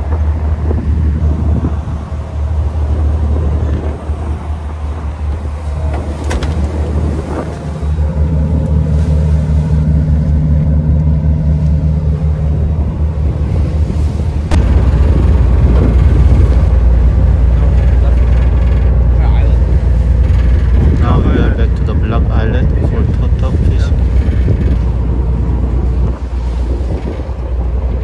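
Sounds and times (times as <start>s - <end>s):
boat engine rumble: 0.0s - 28.0s
rush of water from wake: 0.0s - 28.0s.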